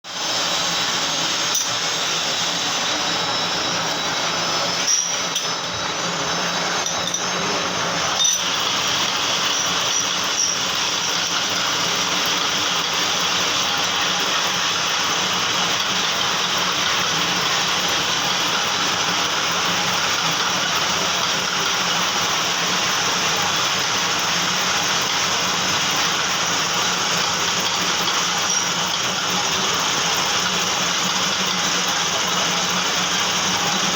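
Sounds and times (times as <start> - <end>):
metal lathe running: 0.1 - 33.9.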